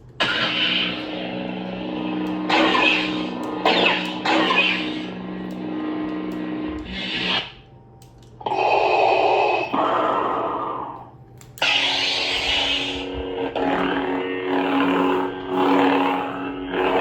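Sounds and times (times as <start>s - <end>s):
lightsaber hum: 0.0s - 17.0s.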